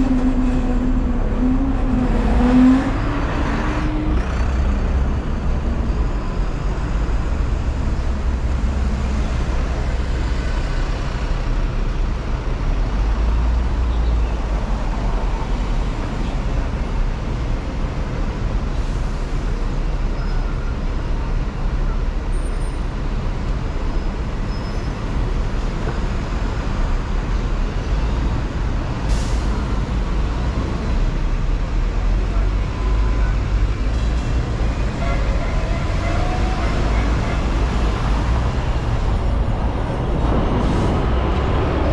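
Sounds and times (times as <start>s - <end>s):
road traffic: 0.0s - 41.9s
tram rumbling on rails: 0.0s - 41.9s.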